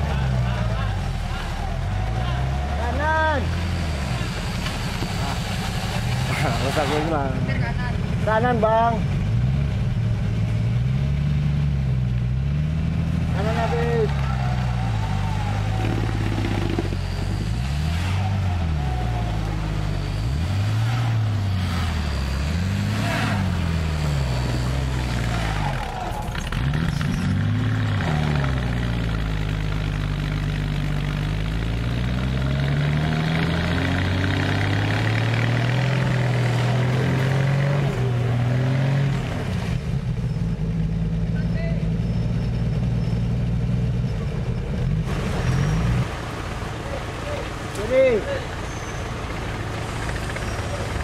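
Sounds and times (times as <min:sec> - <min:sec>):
off-road vehicle engine revving: 0:00.0 - 0:51.0.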